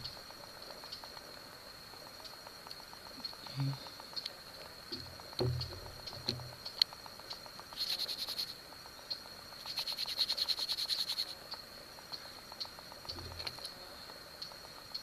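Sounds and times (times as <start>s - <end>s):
rapid pulsed calling: 0.0s - 15.0s.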